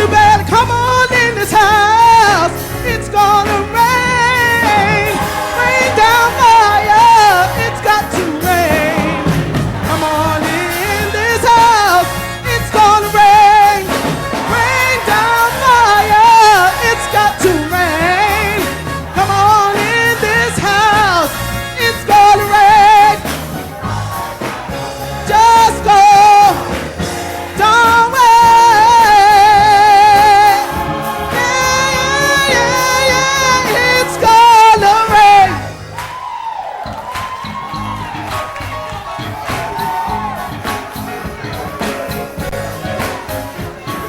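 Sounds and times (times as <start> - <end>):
bass line: 0.0 - 36.2, 36.9 - 44.0
gospel singing with vibrato: 0.0 - 44.0.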